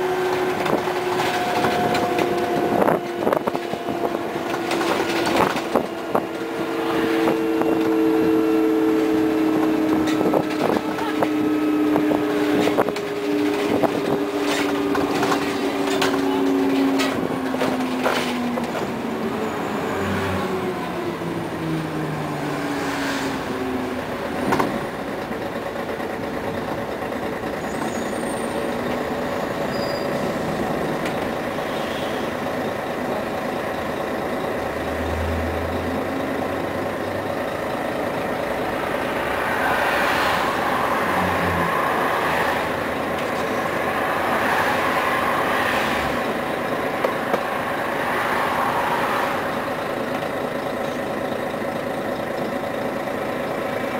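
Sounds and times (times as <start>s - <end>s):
bus diesel engine: 0.0s - 53.9s.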